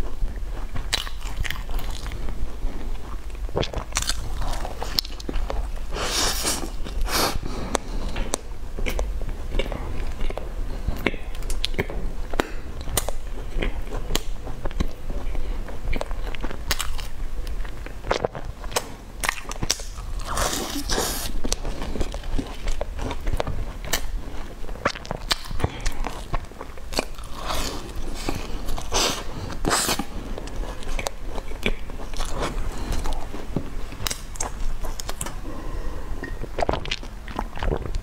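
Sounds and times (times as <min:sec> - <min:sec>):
chewing flaky pastry: 0:00.0 - 0:38.0.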